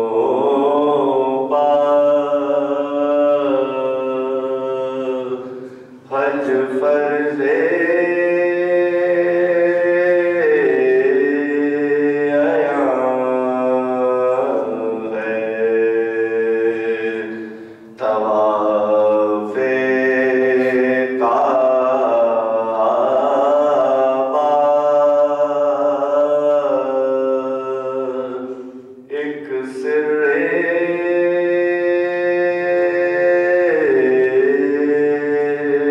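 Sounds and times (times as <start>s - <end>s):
man chanting: 0.0s - 35.9s.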